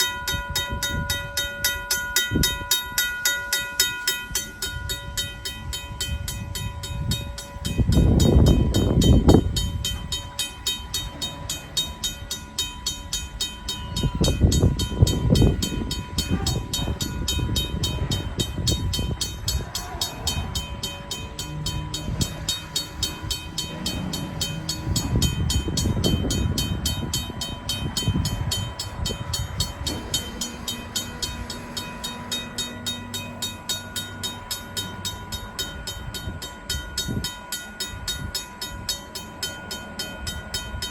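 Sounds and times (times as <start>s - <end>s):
freight train rumble and wheel clatter: 0.0s - 40.9s
mechanical crossing bell ringing: 0.0s - 40.9s.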